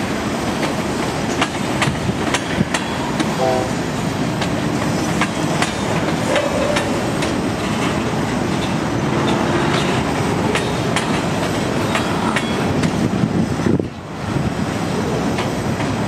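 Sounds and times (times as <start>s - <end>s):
train wheels rumbling on rail: 0.0s - 16.0s
wheels clicking over rail joints: 0.2s - 3.4s, 4.3s - 14.1s.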